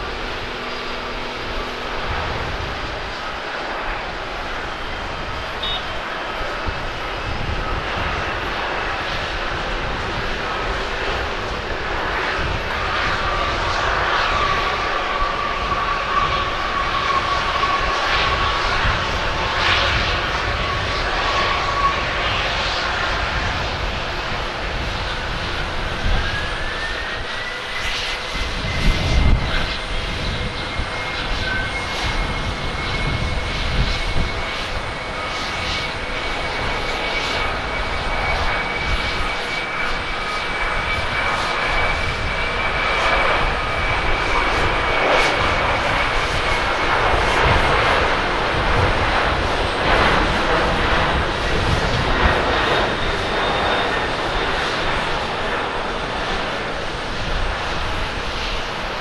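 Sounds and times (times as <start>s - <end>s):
jet engines at takeoff power: 0.0s - 59.0s
jet engines spooling up: 0.0s - 59.0s.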